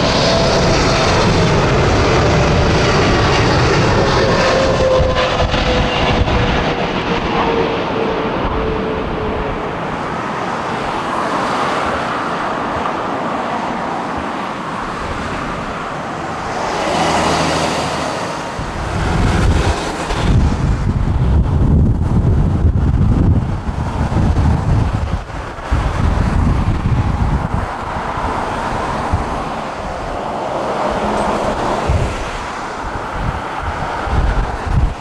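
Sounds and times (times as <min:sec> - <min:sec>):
jet engines roaring and whining: 0:00.0 - 0:35.0
wind buffeting microphone: 0:00.0 - 0:35.0.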